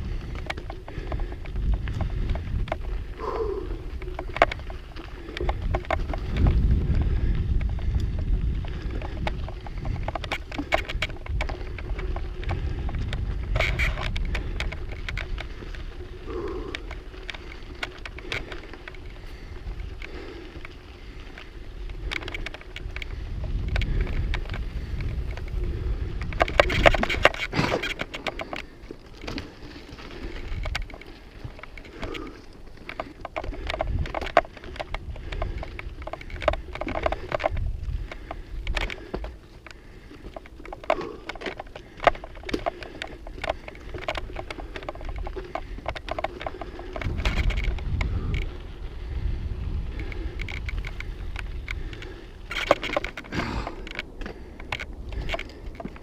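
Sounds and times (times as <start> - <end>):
bike rattling and clicking: 0.0 - 56.0
bike tyres on rocky trail: 0.0 - 56.0
wind rumbling on microphone: 0.0 - 56.0.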